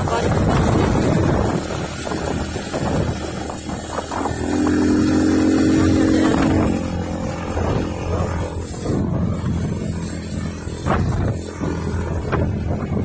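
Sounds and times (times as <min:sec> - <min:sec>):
motor engine rumbling: 0:00.0 - 0:13.0
steady higher tone: 0:00.0 - 0:13.0.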